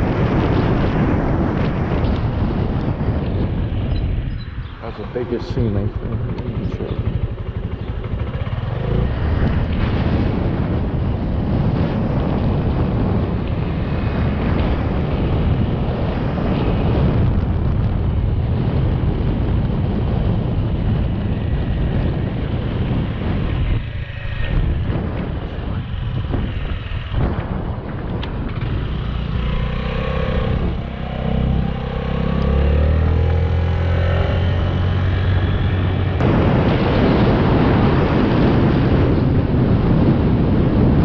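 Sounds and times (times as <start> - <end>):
wind rushing over microphone: 0.0 - 41.0
motorcycle engine running: 0.1 - 41.0.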